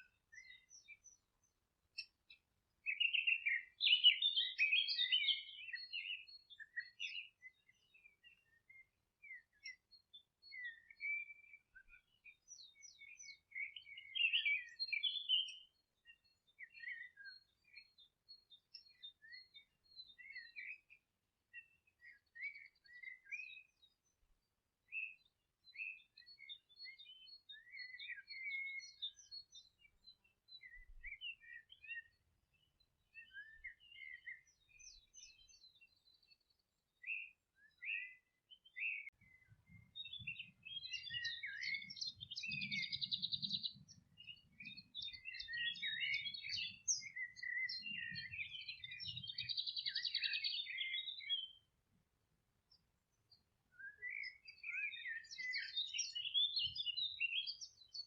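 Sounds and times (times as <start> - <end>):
wild birds singing: 0.0 - 58.0.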